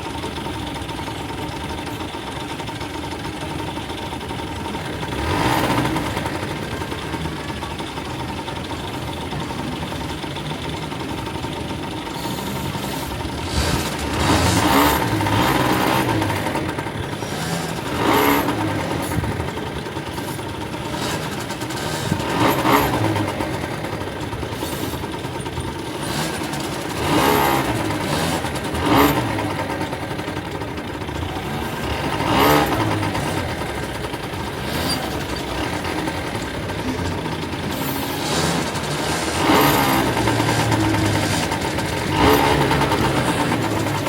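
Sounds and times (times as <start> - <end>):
go-kart engine running: 0.0 - 44.0.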